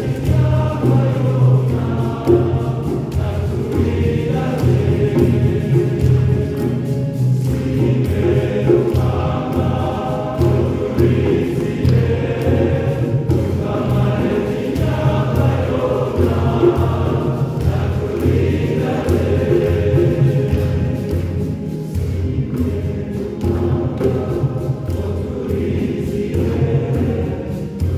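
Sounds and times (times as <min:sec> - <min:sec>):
choir singing: 0:00.0 - 0:27.9
low beat with percussion: 0:00.0 - 0:27.9.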